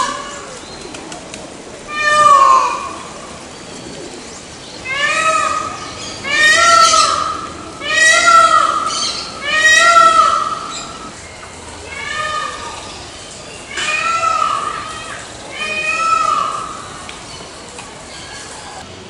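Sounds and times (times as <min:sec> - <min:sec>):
peacock wailing calls: 0:00.0 - 0:01.0, 0:01.7 - 0:18.8.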